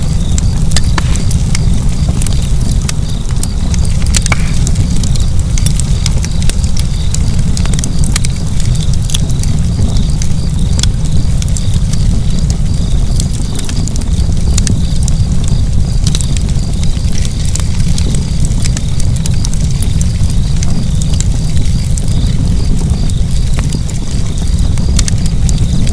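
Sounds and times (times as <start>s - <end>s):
fire crackling and popping: 0.0s - 25.9s
low roar of fire: 0.0s - 25.9s.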